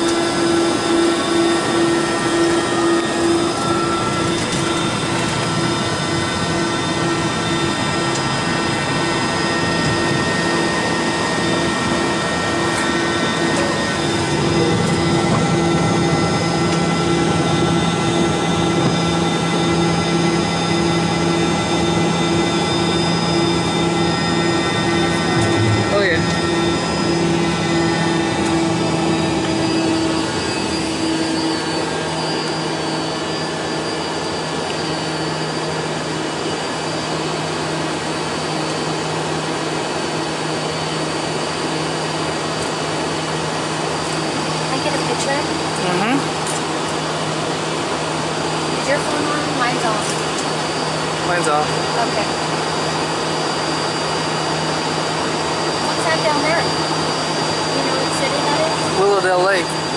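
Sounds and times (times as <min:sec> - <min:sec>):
jet cabin engine rush: 0:00.0 - 0:59.9
pulsing hum: 0:00.0 - 0:59.9
whining and humming tones: 0:00.0 - 0:59.9.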